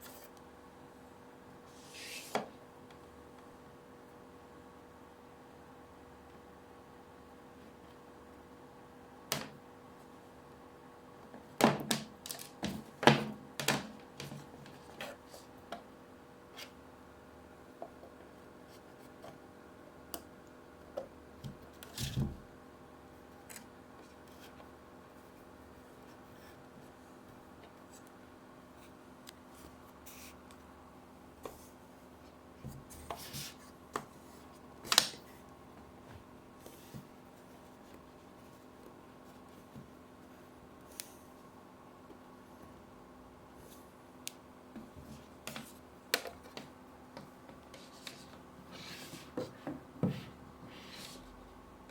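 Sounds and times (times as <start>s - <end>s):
faint electrical hum: 0.0s - 51.9s.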